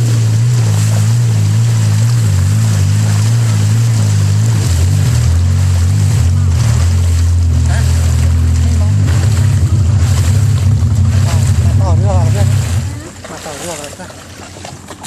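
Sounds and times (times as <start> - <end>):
boat engine droning: 0.0 - 15.0
water rushing: 0.0 - 15.0.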